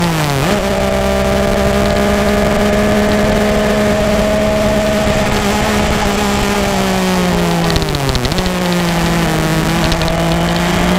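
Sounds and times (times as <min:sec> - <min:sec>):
motorcycle engine revving steadily: 0:00.0 - 0:10.9.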